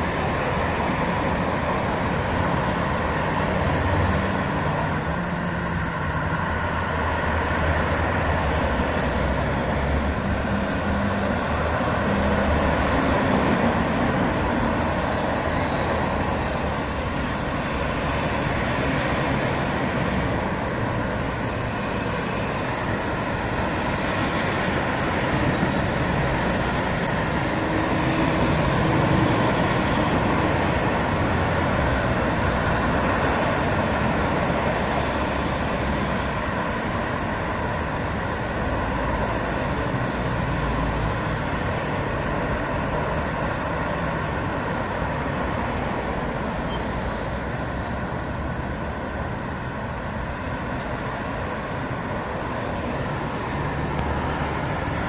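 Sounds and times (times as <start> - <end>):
road traffic hum: 0.0 - 55.0.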